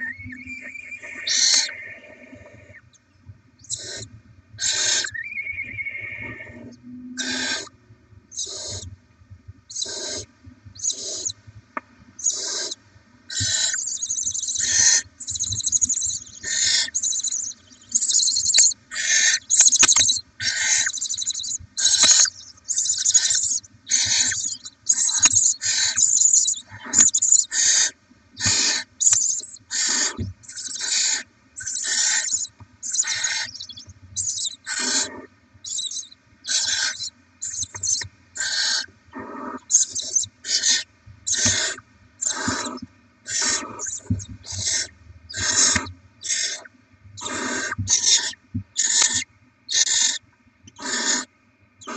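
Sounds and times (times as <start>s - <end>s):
owl chicks hissing begging calls: 0.1s - 2.8s, 3.6s - 6.5s, 7.2s - 7.7s, 8.3s - 8.9s, 9.7s - 11.4s, 12.2s - 51.9s.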